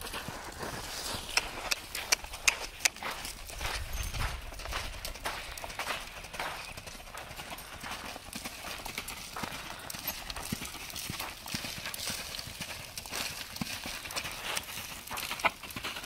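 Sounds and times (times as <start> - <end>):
horse hoofbeats on gravel: 0.0 - 16.0.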